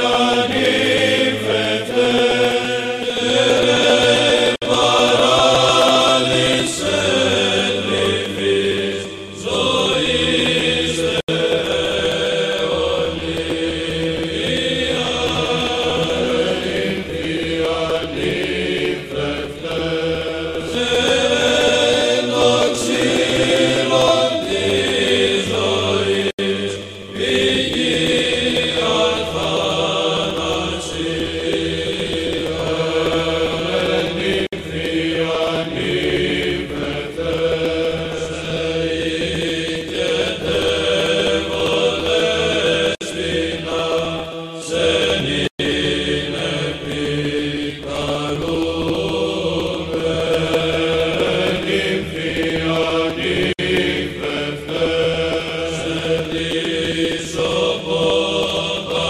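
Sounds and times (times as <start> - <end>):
chanting over a held drone: 0.0 - 59.0.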